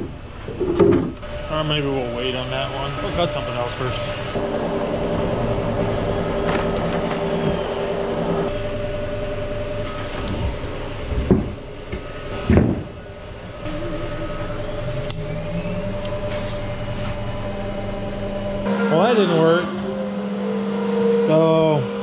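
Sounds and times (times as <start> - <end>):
shop machinery humming: 0.0 - 22.0.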